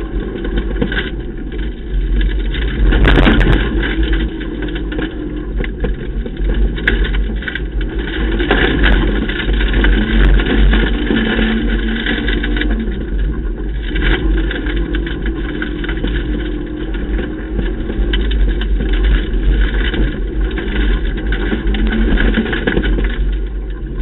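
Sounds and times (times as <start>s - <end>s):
rally car engine: 0.0s - 24.0s
tyre and road noise: 0.0s - 24.0s.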